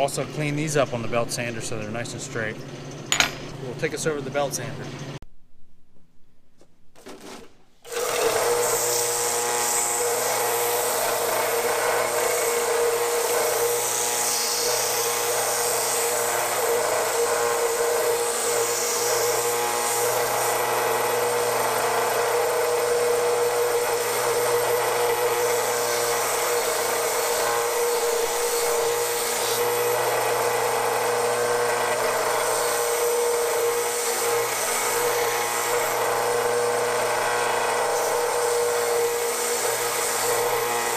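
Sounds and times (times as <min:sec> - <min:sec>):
belt sander grinding steel: 0:07.9 - 0:40.9.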